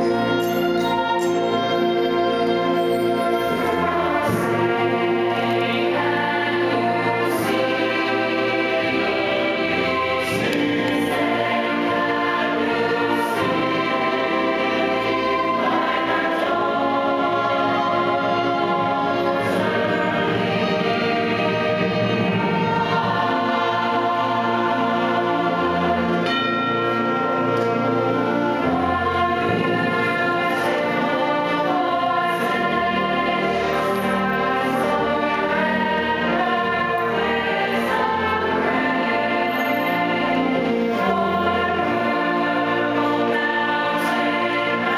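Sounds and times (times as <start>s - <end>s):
choir singing slow piece: 0.0s - 44.9s.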